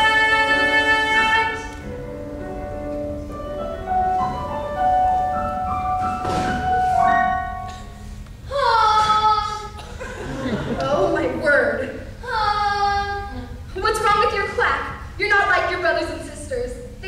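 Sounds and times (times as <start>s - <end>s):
instrumental theatre accompaniment: 0.0s - 17.0s.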